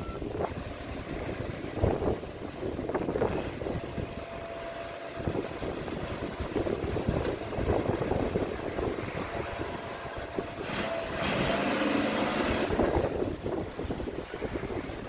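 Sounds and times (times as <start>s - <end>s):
diesel truck engine running: 0.0s - 15.0s
wind buffeting microphone: 0.0s - 15.0s.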